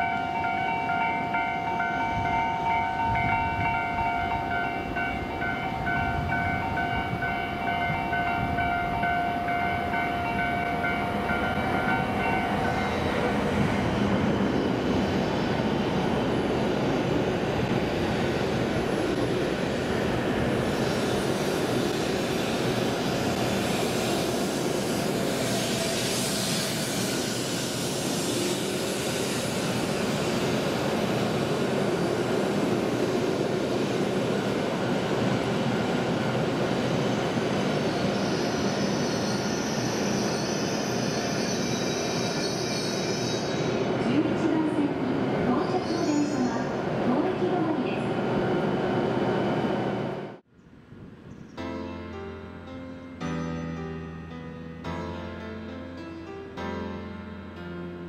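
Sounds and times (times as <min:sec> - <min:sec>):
train wheels rumbling: 0:00.0 - 0:50.3.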